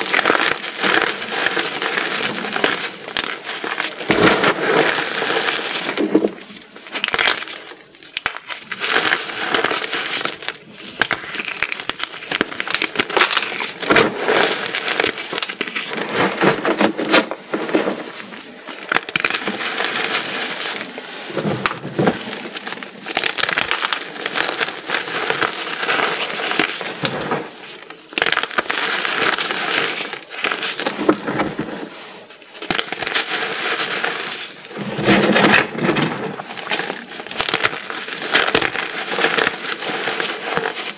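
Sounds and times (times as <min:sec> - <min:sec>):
chalk being crushed: 0:00.0 - 0:40.9.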